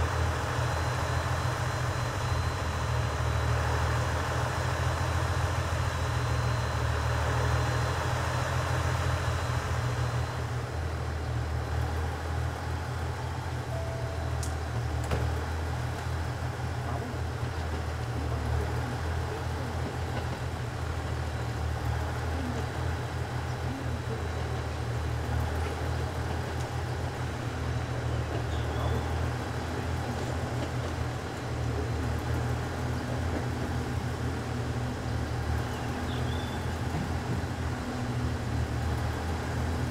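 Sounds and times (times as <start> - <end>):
train diesel engine idling hum: 0.0 - 39.9.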